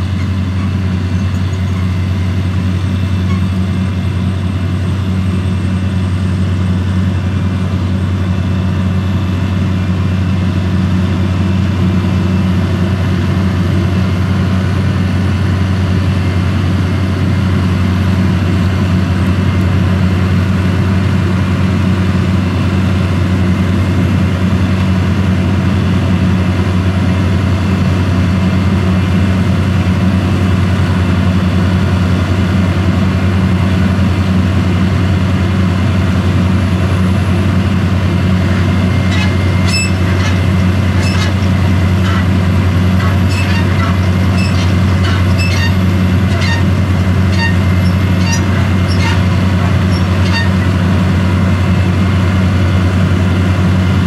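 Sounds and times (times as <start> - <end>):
harvester engine droning: 0.0 - 54.0.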